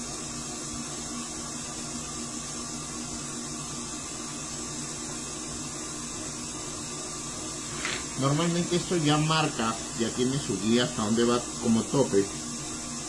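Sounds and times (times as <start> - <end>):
hiss: 0.0 - 13.0.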